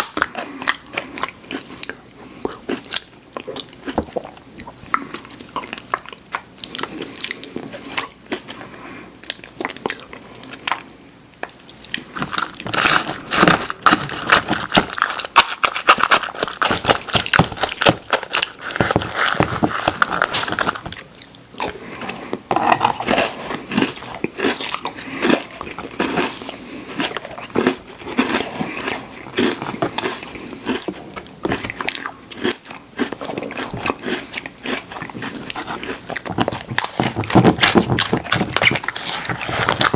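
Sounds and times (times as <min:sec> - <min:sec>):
cookies crunching: 0:00.0 - 0:10.8, 0:11.4 - 0:39.9.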